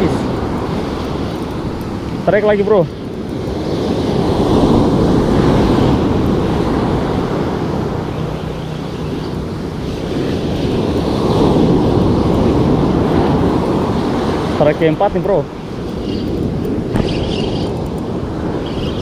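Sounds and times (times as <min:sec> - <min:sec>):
ocean surf breaking on beach: 0:00.0 - 0:19.0
wind rumbling on microphone: 0:00.0 - 0:19.0.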